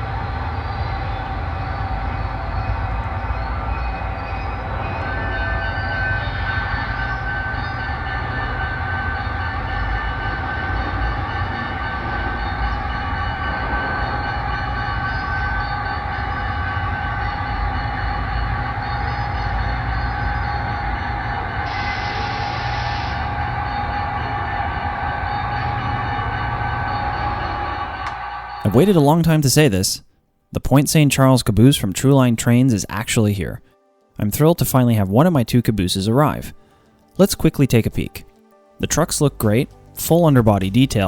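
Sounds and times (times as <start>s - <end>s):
diesel locomotive rumbling: 0.0s - 30.0s, 34.2s - 41.0s.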